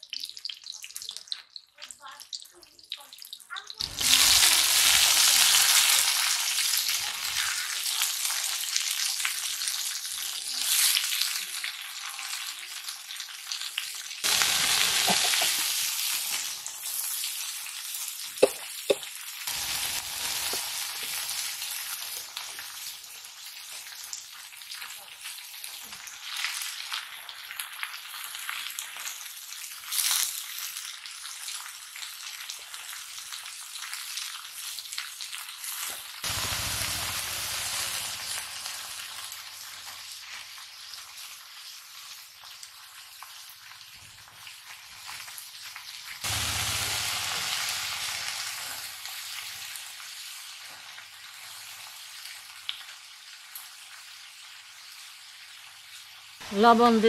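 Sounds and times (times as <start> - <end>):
leaves sizzling in hot oil: 0.0 - 57.0.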